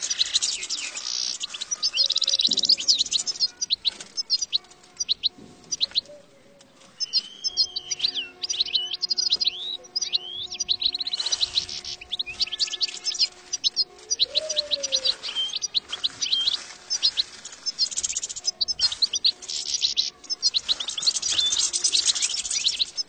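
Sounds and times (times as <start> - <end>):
goldfinch singing: 0.0 - 23.0.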